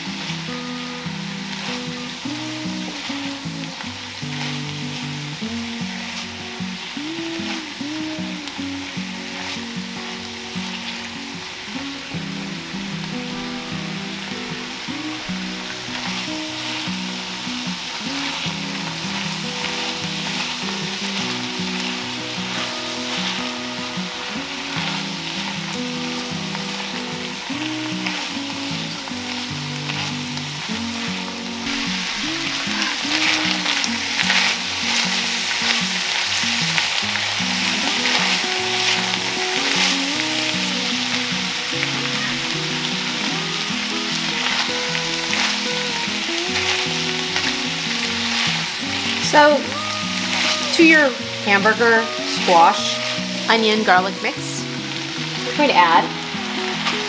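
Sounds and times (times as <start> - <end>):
food sizzling in skillet: 0.0 - 57.0.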